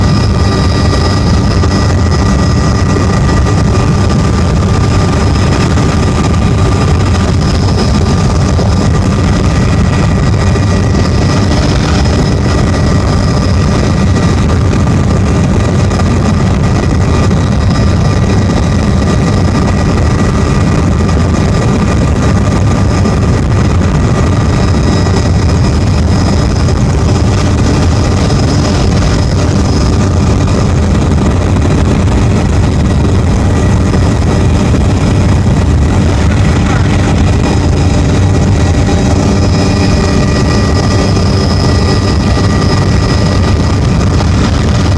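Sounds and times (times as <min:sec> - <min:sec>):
helicopter engine and rotors droning: 0:00.0 - 0:44.9.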